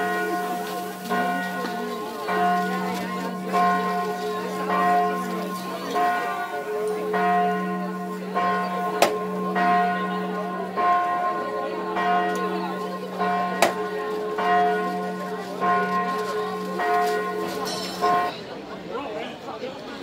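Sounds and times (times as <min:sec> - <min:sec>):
church bell tolling: 0:00.0 - 0:18.5.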